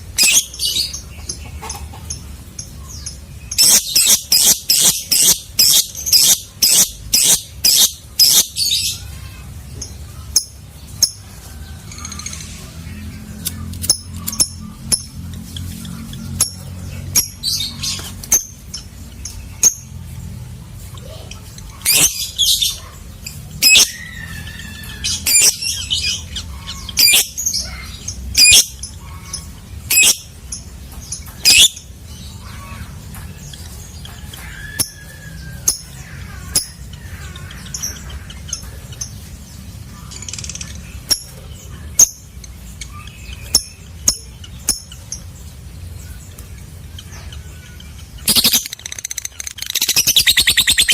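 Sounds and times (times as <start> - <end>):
lovebird chirping and squawking: 0.0 - 50.9.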